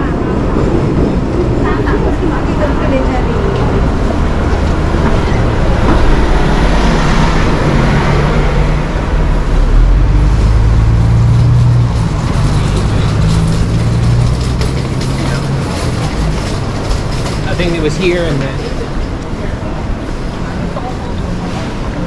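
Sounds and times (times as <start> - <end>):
heavy vehicle engine hum: 0.0 - 22.0.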